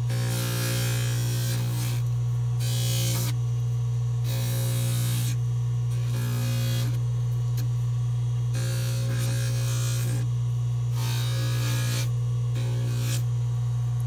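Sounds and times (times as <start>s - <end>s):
polishing lathe humming: 0.0s - 14.0s.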